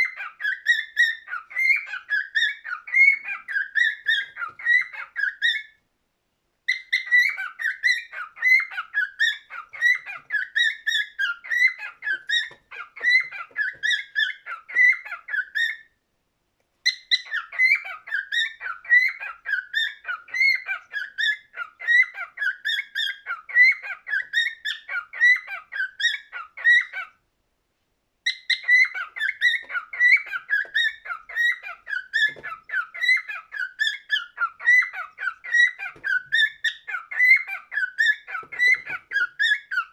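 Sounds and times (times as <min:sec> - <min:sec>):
cockatiel singing: 0:00.0 - 0:05.8, 0:06.6 - 0:16.0, 0:16.8 - 0:27.2, 0:28.2 - 0:39.9.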